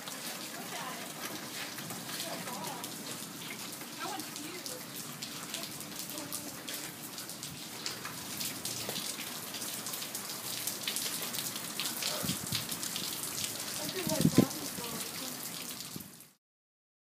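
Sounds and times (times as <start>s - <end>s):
hail and rain pattering: 0.0s - 16.2s.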